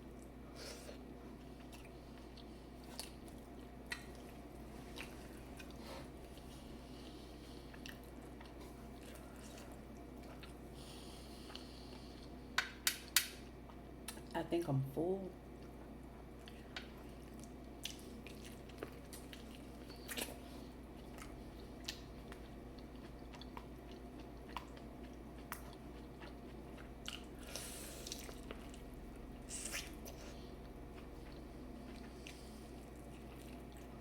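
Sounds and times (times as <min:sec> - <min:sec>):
chewing: 0:00.1 - 0:12.3, 0:15.6 - 0:34.0.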